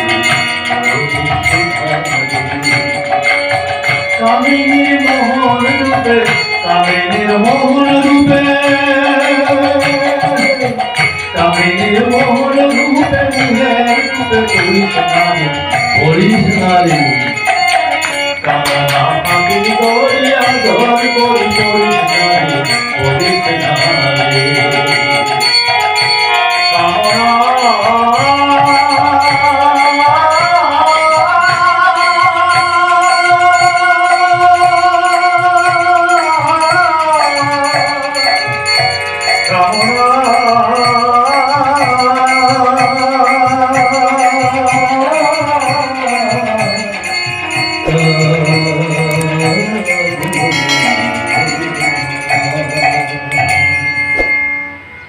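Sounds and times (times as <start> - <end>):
man singing: 0.0 - 25.8, 26.4 - 54.3
harmonium: 0.0 - 55.0
small hand cymbals ringing: 0.0 - 55.0.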